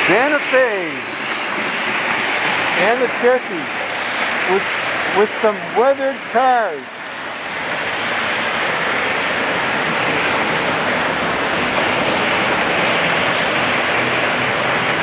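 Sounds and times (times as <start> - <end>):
model train wheels rolling on track: 0.0 - 15.0.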